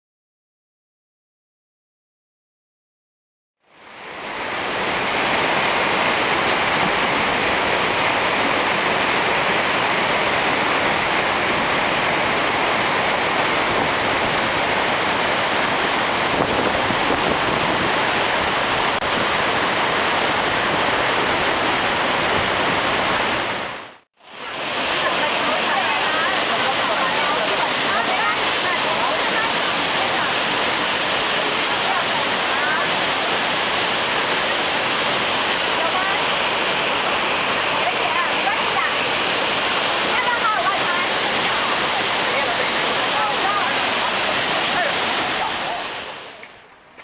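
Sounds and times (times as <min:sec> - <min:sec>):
river rushing over rapids: 0:03.6 - 0:46.9.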